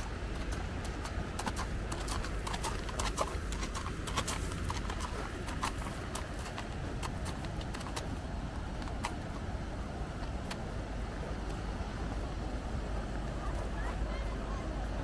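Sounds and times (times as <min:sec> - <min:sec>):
horse hooves on gravel: 0:00.0 - 0:15.0
steady low rumble: 0:00.0 - 0:15.0.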